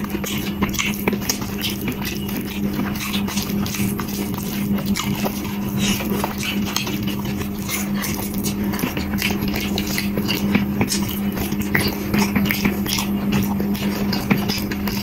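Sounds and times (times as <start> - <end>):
mouth clicks and smacks: 0.0 - 15.0
steady low hum: 0.0 - 15.0
wet chewing: 0.0 - 15.0.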